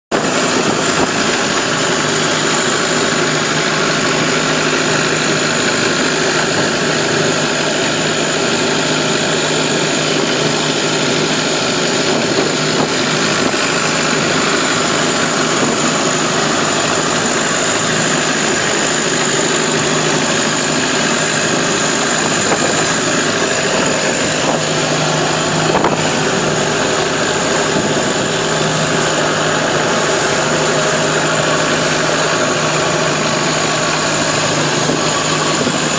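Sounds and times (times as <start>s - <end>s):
boat engine running: 0.1s - 35.9s.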